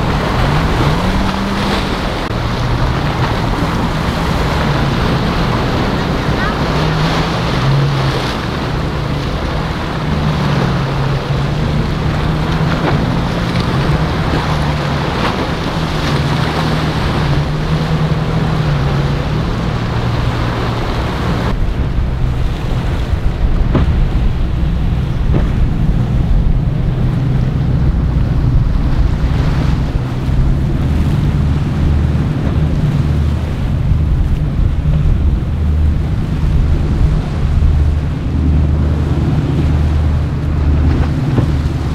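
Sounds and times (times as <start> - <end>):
boat engines droning: 0.0 - 41.9
waves and water rushing: 0.0 - 41.9
wind buffeting microphone: 0.0 - 41.9.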